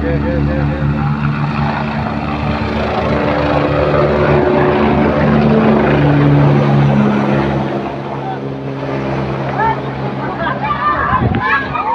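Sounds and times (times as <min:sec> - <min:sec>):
helicopter rotor and turbine: 0:00.0 - 0:11.9.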